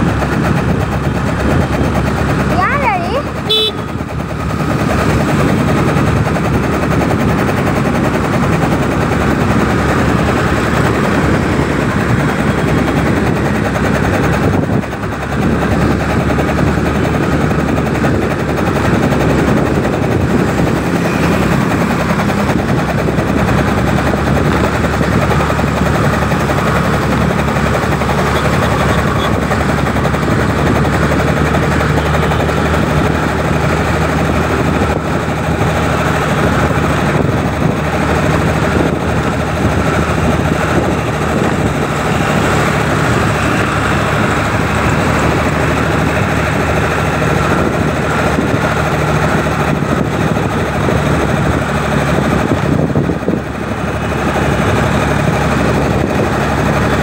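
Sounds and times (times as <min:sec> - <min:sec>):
motorbike engine running: 0:00.0 - 0:57.0
wind buffeting microphone: 0:00.0 - 0:57.0.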